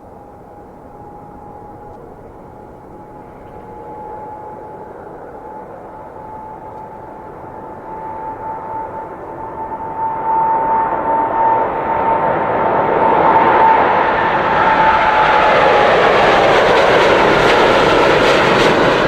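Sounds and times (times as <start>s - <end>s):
airplane engines with rising whine: 0.0s - 19.0s.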